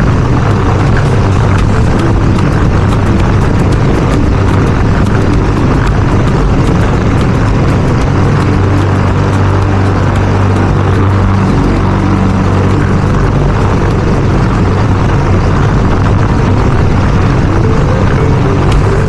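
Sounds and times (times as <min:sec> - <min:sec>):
lawn mower running: 0:00.0 - 0:19.0.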